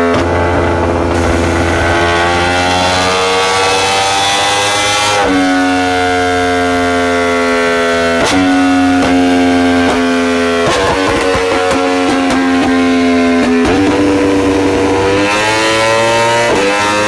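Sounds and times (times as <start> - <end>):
exhaust crack: 0.0 - 17.0
motorcycle engine revving: 0.0 - 17.0.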